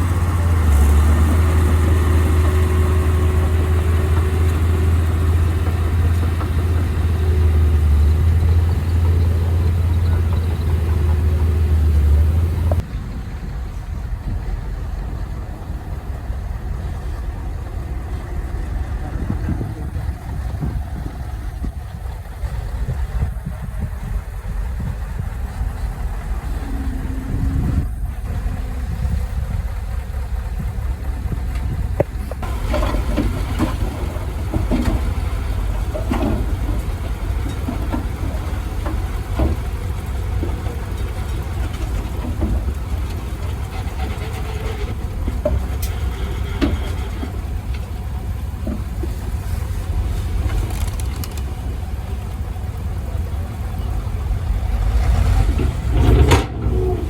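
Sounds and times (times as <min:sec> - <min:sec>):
heavy machinery engine rumbling: 0:00.0 - 0:57.0.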